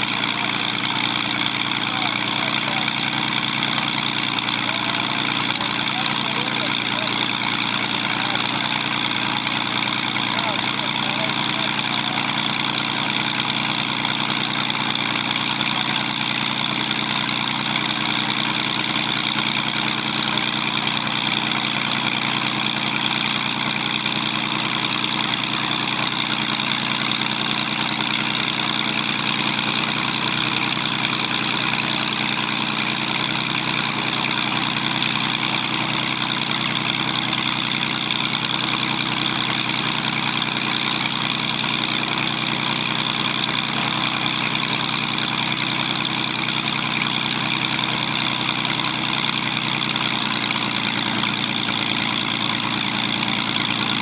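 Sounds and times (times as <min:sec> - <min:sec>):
aircraft engine idling: 0:00.0 - 0:54.0.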